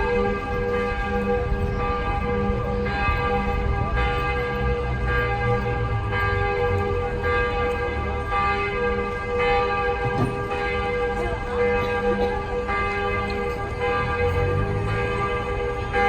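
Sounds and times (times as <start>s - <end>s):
cathedral bells pealing: 0.0s - 16.0s.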